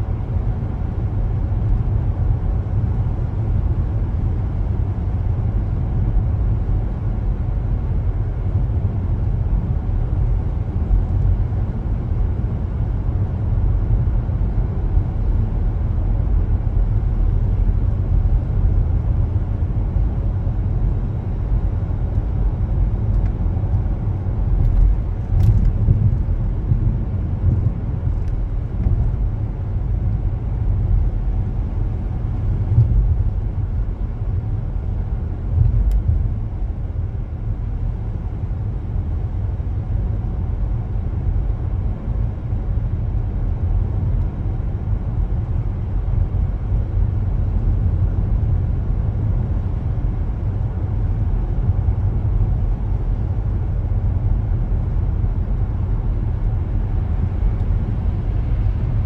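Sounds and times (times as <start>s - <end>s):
car driving road rumble: 0.0s - 59.0s.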